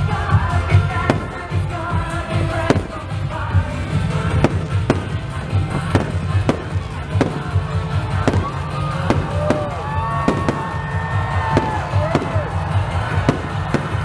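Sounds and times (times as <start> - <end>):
fireworks bursting: 0.0 - 14.0
music with pulsing low beat: 0.0 - 14.0.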